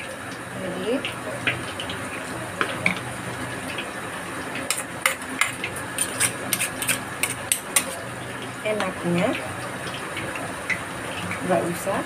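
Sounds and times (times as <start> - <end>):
hot oil sizzling in a wok: 0.0 - 12.0.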